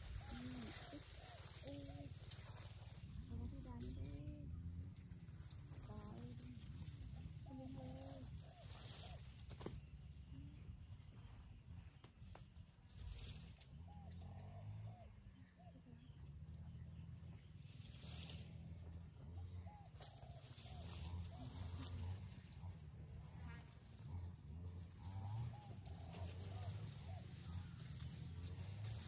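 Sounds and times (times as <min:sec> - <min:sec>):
distant birds chirping: 0:00.0 - 0:29.0.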